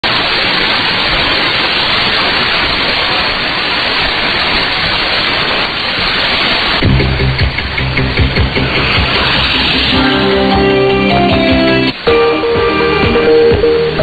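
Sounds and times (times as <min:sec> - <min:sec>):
radio static hiss: 0:00.1 - 0:12.0.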